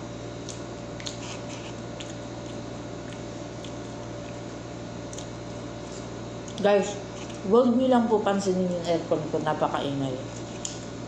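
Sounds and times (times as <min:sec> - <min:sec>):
air conditioner humming and hissing: 0:00.0 - 0:11.0.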